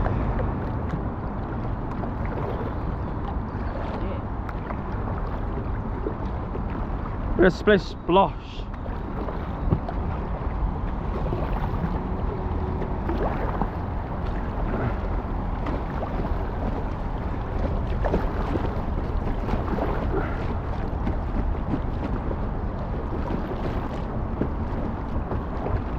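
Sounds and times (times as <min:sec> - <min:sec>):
wind rumble on microphone: 0:00.0 - 0:08.1, 0:08.7 - 0:25.9
paddle splashing water: 0:00.0 - 0:25.9.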